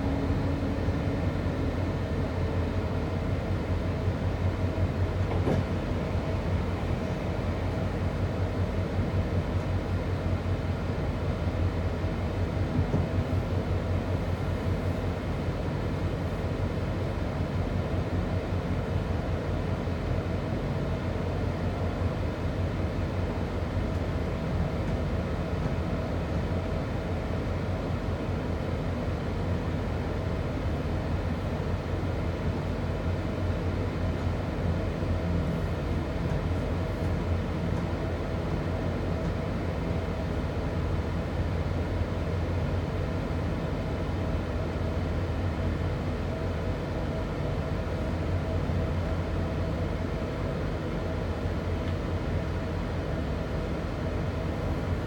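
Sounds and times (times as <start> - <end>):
wheels rumbling on rail: 0.0 - 55.0.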